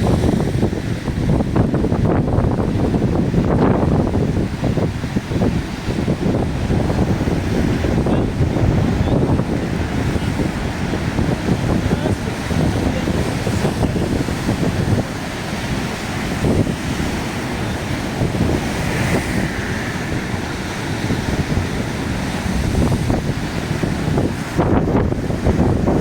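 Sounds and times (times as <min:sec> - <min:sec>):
heavy surf rushing: 0:00.0 - 0:26.0
wind buffeting microphone: 0:00.0 - 0:26.0.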